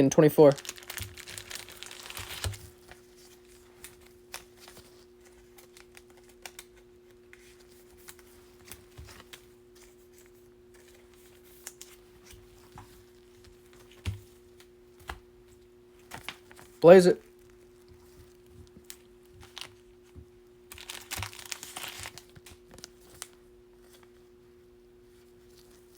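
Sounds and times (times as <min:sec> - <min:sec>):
faint steady hum: 0:00.0 - 0:25.9.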